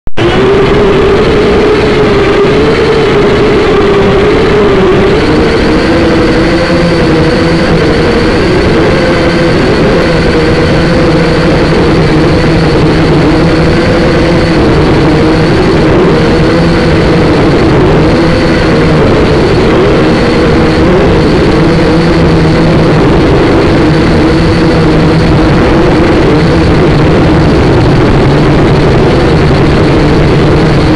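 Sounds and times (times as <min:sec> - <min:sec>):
drone motors whirring: 0:00.2 - 0:30.9.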